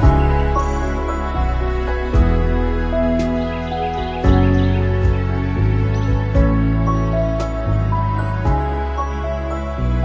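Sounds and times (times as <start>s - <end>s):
gentle new-age instrumental music: 0.0s - 10.0s.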